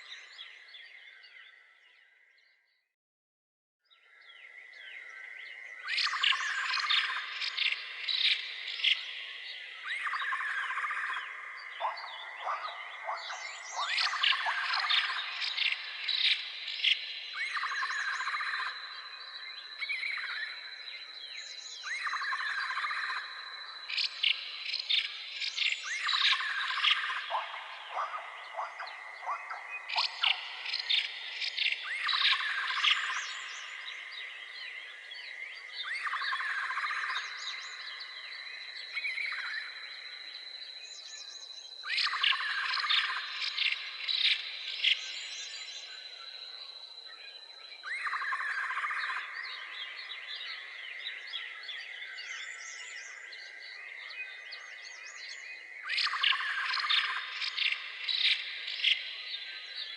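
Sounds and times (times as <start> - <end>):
birds chirping and calling: 5.9 - 40.2, 40.8 - 59.9.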